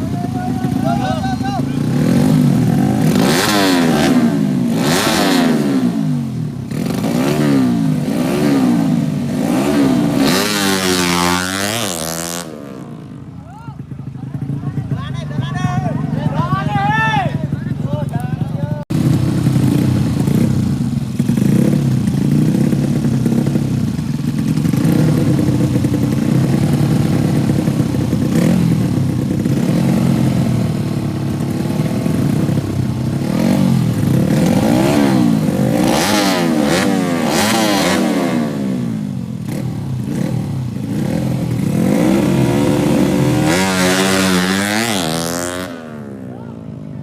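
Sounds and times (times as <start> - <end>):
racing motorcycle engines revving: 0.0 - 47.0.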